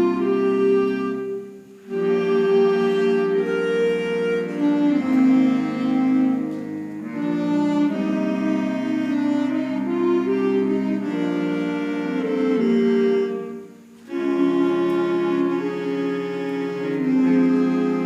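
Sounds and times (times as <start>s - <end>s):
woodwind band playing chords: 0.0s - 18.0s.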